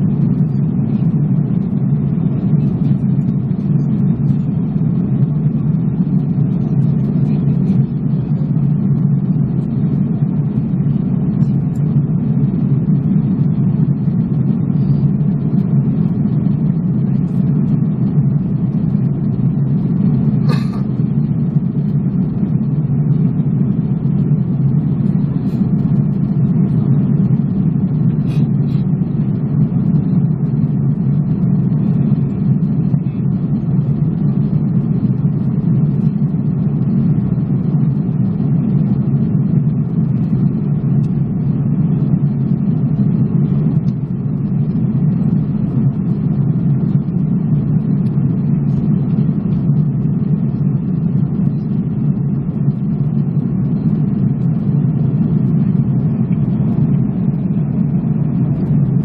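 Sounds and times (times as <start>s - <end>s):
jet engine and airflow rush: 0.0s - 59.0s.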